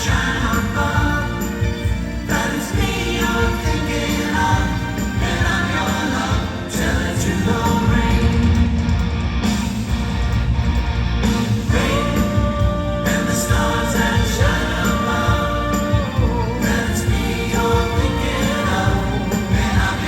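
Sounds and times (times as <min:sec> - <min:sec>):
singers holding long notes: 0:00.0 - 0:08.9, 0:11.5 - 0:20.0
live pop rock band: 0:00.0 - 0:20.0.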